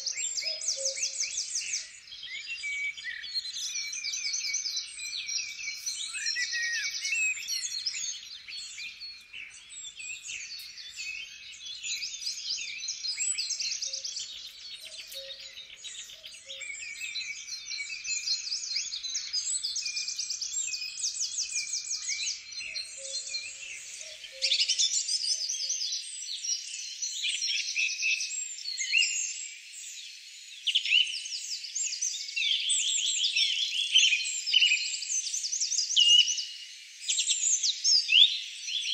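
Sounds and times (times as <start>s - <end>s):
songbirds chorus: 0.0s - 38.9s.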